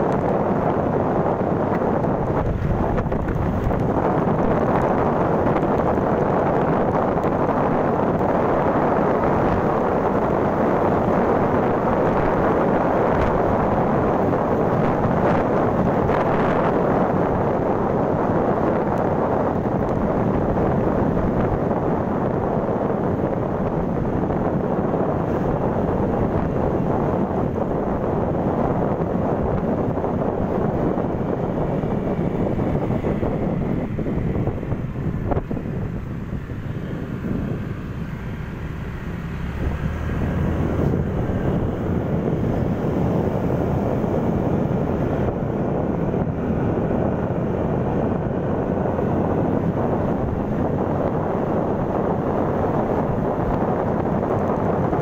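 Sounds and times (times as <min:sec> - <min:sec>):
motorbike running: 0:00.0 - 0:55.0
road noise: 0:00.0 - 0:55.0
wind buffeting microphone: 0:00.0 - 0:55.0.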